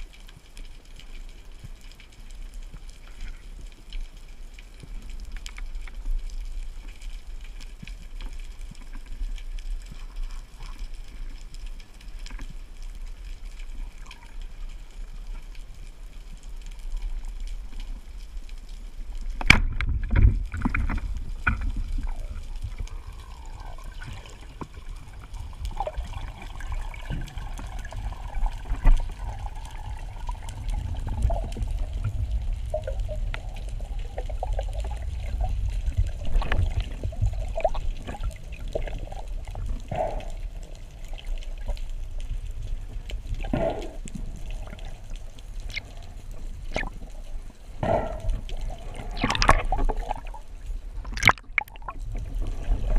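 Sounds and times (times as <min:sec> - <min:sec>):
faint underwater clicks: 0:00.0 - 0:52.9
low rumbling water: 0:00.0 - 0:52.9
underwater sea noise: 0:00.0 - 0:52.9.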